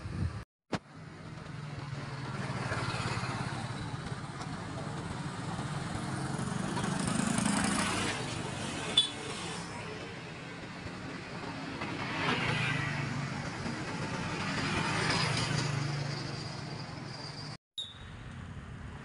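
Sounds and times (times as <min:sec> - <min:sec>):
motorbikes passing at low speed: 0:00.9 - 0:17.0.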